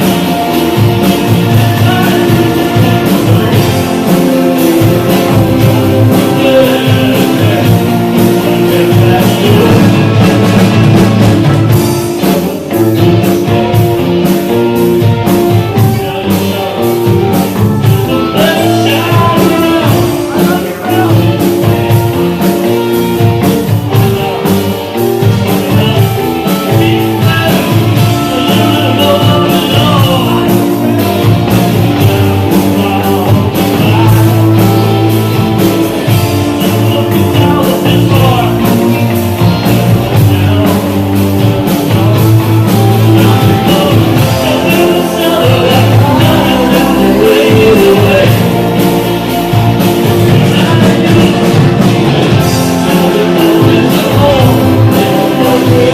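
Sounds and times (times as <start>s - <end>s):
drum kit beat: 0.0s - 55.9s
electric guitars: 0.0s - 55.9s
person singing: 0.0s - 55.9s.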